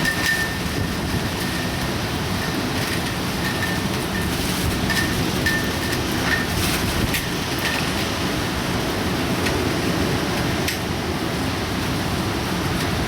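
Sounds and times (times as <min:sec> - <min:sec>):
rain and wind rushing: 0:00.0 - 0:13.0.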